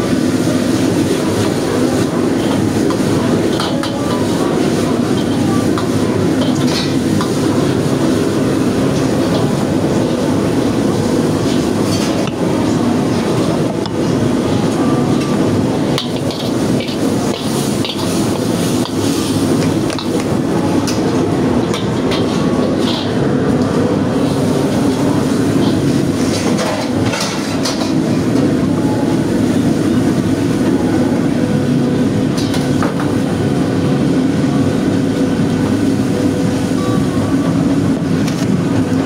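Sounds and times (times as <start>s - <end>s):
burner and extraction hood roar: 0.0s - 39.0s.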